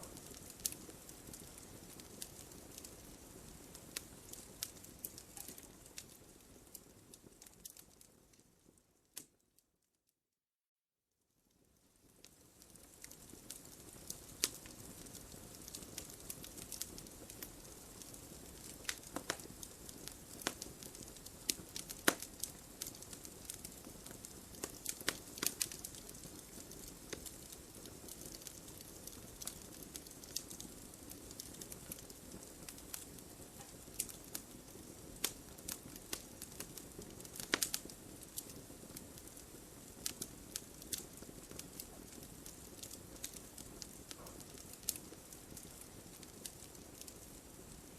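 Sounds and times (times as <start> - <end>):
fire crackling in a fireplace: 0.0 - 9.9, 11.3 - 47.9.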